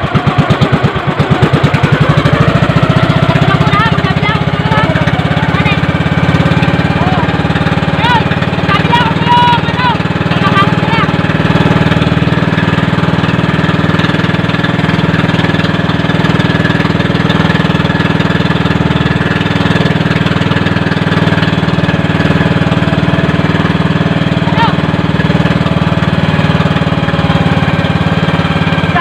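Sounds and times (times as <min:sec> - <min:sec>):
small boat engine running: 0:00.0 - 0:29.0.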